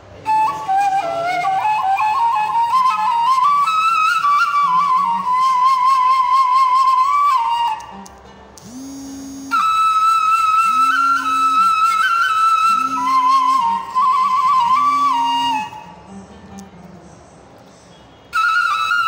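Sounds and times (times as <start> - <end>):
reed flute melody: 0.2 - 16.2, 18.3 - 19.0.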